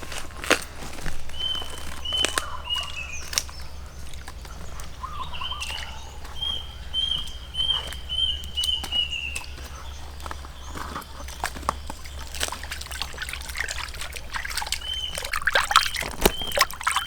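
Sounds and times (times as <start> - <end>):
steady low hum: 0.0 - 17.0
bird chirping: 1.0 - 17.0.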